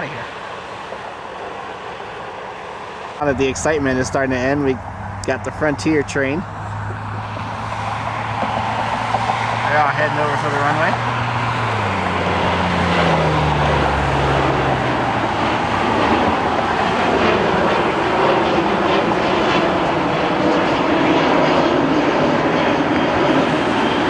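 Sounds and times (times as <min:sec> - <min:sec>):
jet engines passing: 0:00.0 - 0:24.0.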